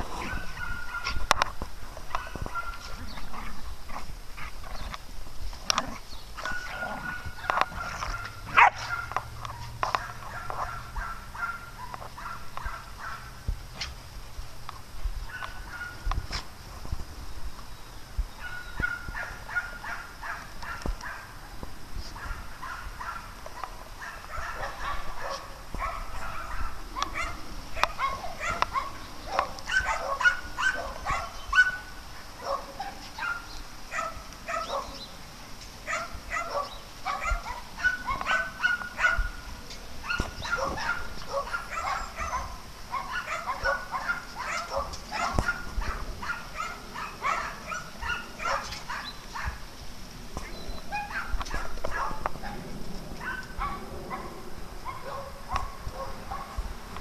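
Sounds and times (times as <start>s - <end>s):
dogs barking: 0.0s - 4.9s, 5.7s - 13.9s, 15.2s - 16.4s, 18.4s - 21.4s, 22.0s - 35.0s, 35.8s - 49.6s, 50.9s - 56.7s.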